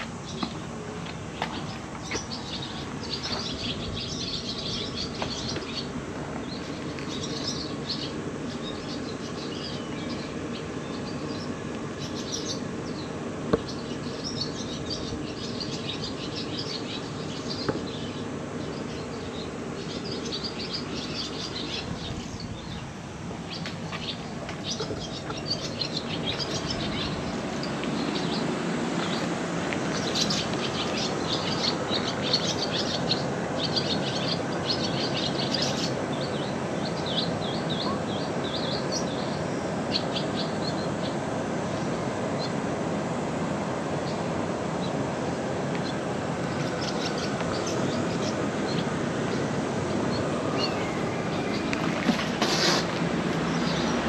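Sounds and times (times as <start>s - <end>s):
small birds chirping: 0.0s - 42.7s, 43.3s - 54.0s
steady low hum: 0.0s - 54.0s.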